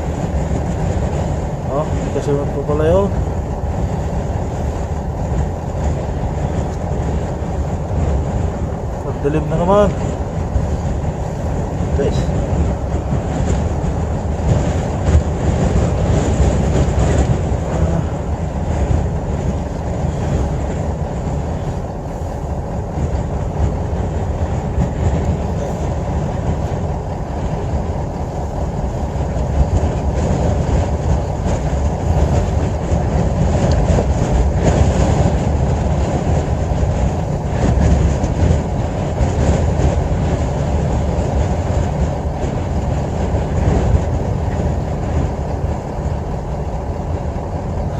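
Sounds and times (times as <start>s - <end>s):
strong wind rumbling: 0.0s - 47.9s.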